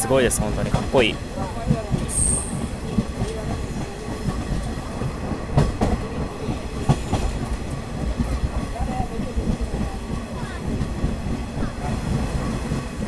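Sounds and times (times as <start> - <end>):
railcar engine and wheels rumbling: 0.0 - 13.0.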